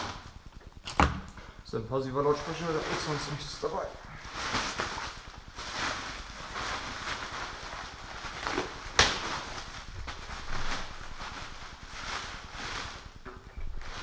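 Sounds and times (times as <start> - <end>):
plastic bag crinkling: 1.9 - 14.0.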